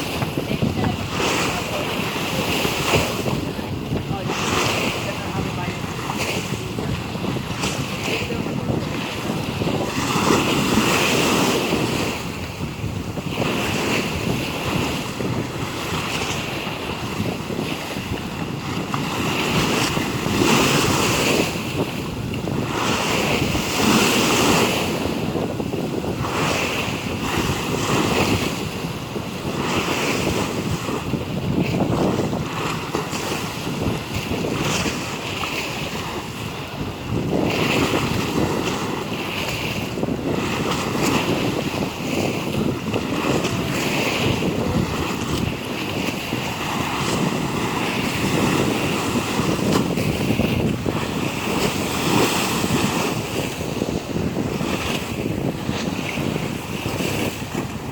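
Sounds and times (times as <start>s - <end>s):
sea waves surging: 0.0s - 57.9s
wind buffeting microphone: 0.0s - 57.9s.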